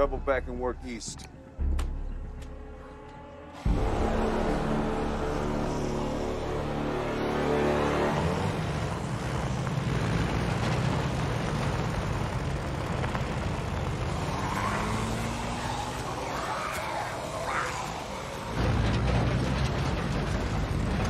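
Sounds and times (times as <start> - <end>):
held music drone: 0.0 - 21.0
jeep engine running: 3.7 - 21.0.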